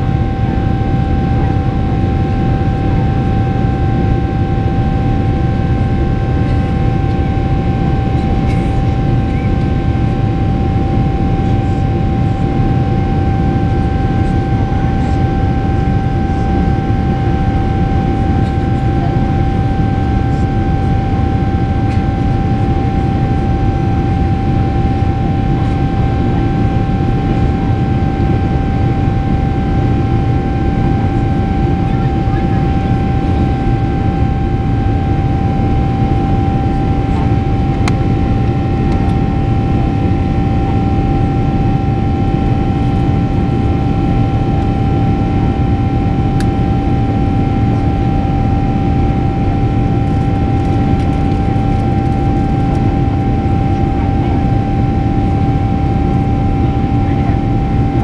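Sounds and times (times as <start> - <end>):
high fan whine: 0.0 - 58.0
jet engine and airflow rushing: 0.0 - 58.0.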